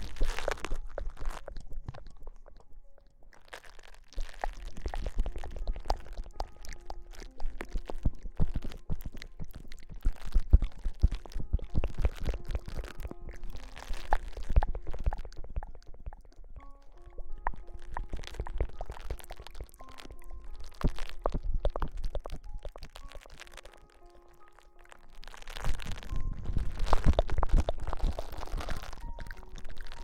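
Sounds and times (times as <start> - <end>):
close rustling crackles: 0.0 - 30.0.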